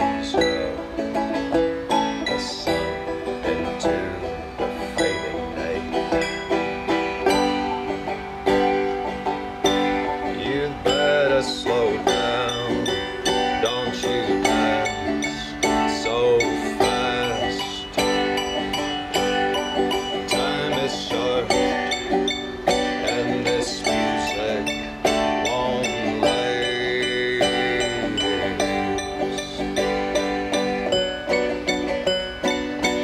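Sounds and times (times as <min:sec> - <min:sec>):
banjo picking: 0:00.0 - 0:33.0
piano playing: 0:00.0 - 0:33.0.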